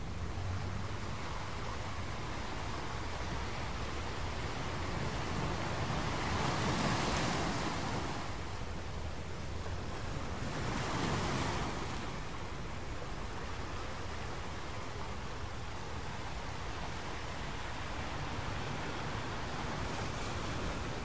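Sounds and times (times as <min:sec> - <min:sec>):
ocean waves washing in: 0:00.0 - 0:21.0.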